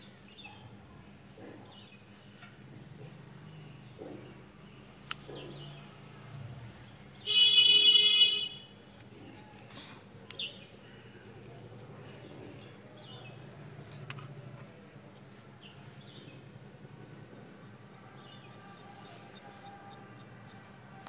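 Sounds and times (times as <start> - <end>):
birds chirping: 0.0 - 8.6, 10.2 - 13.5, 14.8 - 21.0.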